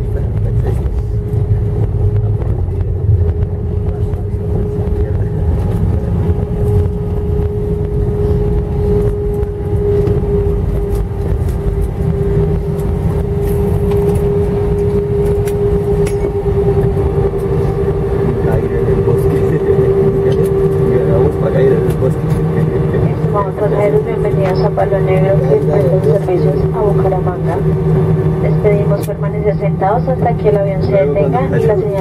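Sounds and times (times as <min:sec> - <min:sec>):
jet engine whine: 0:00.0 - 0:32.0
low rumble of wheels and airframe: 0:00.0 - 0:32.0.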